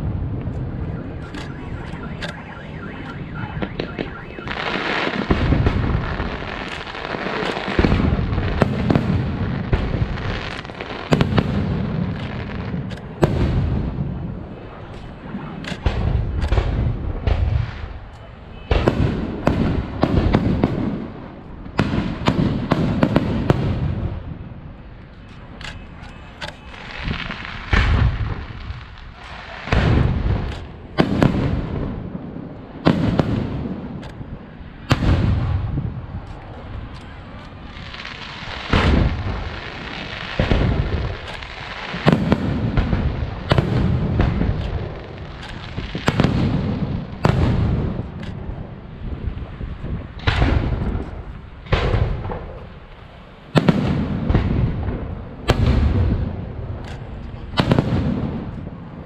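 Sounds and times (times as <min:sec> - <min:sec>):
fireworks booming: 0:00.0 - 0:59.0
fireworks crackling: 0:00.0 - 0:59.0.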